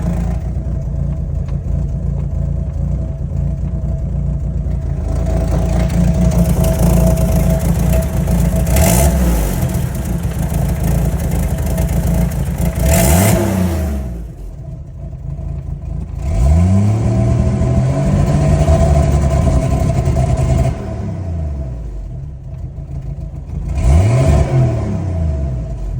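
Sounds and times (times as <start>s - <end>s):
car engine revving: 0.0s - 22.2s, 22.8s - 25.9s.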